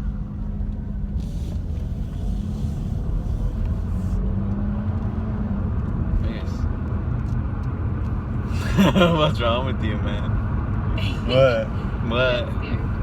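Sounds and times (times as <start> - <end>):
car engine: 0.0 - 13.0
road rumble: 0.0 - 13.0.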